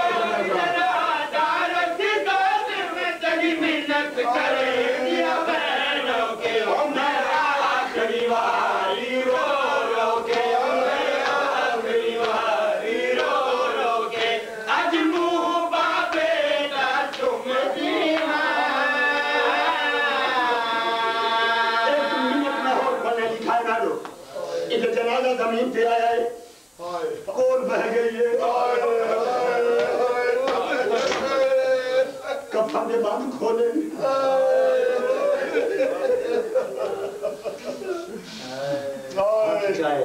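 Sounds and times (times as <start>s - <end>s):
men chanting in unison: 0.0s - 23.6s, 27.1s - 39.8s.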